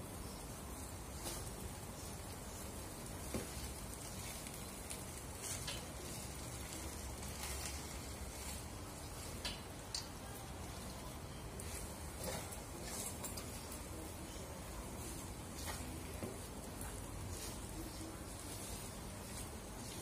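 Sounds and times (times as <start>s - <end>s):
rice sizzling in a wok: 0.0s - 20.0s.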